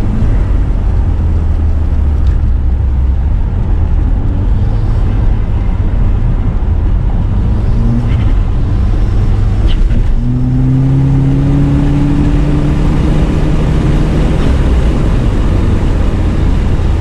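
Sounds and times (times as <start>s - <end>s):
car engine accelerating: 0.0s - 17.0s
road and wind noise: 0.0s - 17.0s.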